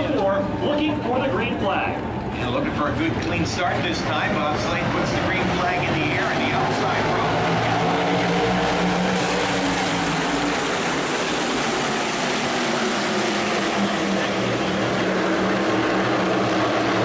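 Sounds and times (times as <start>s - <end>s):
race car engines at full throttle: 0.0s - 17.0s.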